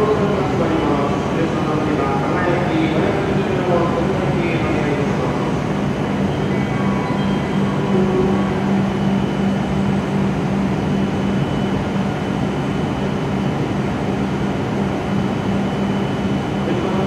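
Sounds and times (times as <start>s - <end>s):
train mechanical hum: 0.0s - 17.0s.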